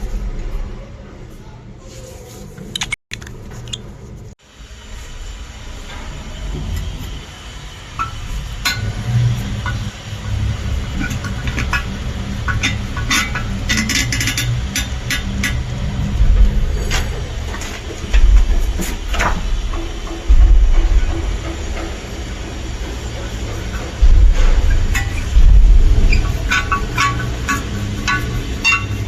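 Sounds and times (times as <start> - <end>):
steady low rumble: 4.0 - 29.0.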